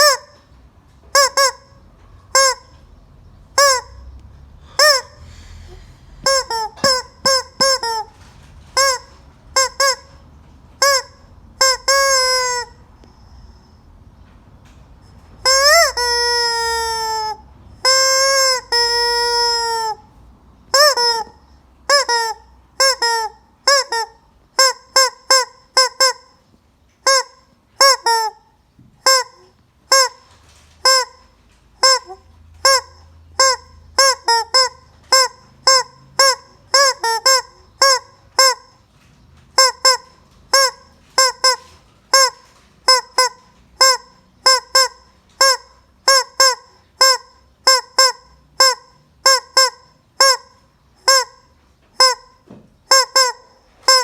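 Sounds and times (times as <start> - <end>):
rubber chicken toy squawking: 0.0 - 0.5, 1.1 - 2.8, 3.5 - 10.2, 10.8 - 13.7, 15.4 - 20.1, 20.7 - 26.4, 27.0 - 38.8, 39.5 - 54.0.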